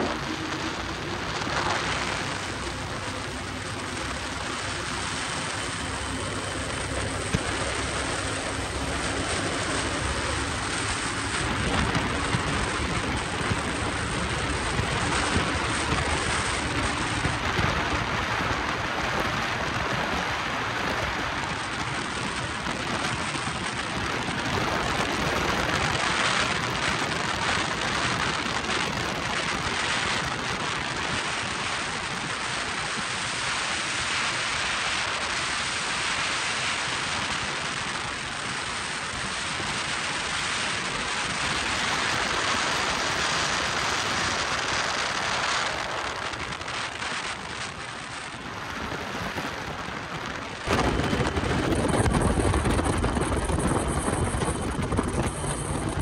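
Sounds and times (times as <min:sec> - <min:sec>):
boat engines: 0:00.0 - 0:56.0
wind and water rushing: 0:00.0 - 0:56.0
wind buffeting microphone: 0:00.0 - 0:56.0.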